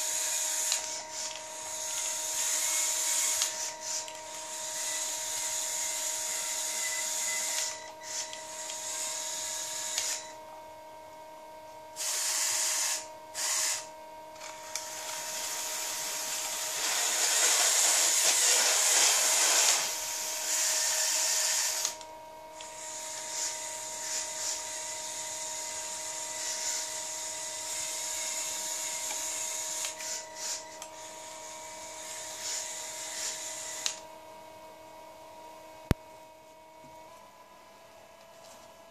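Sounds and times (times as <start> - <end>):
small electric motors whirring: 0.0 - 10.4, 12.0 - 34.1.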